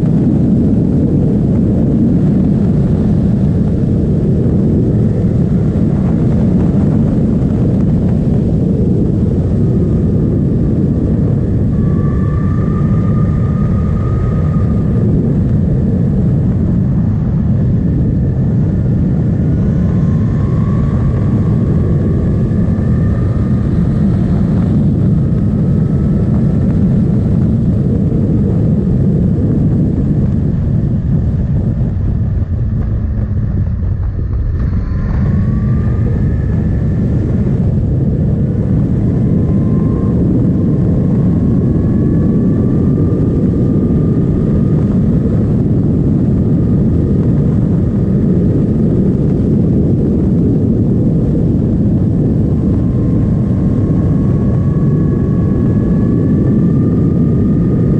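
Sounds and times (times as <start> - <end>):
motorcycle engine running: 0.0 - 48.9
wind rush on microphone: 0.0 - 57.9.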